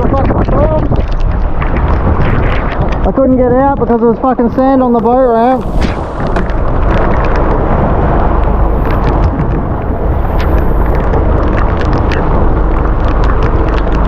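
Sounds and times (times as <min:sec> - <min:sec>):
rain spattering on camera: 0:00.0 - 0:14.0
wind blasting over microphone: 0:00.0 - 0:14.0.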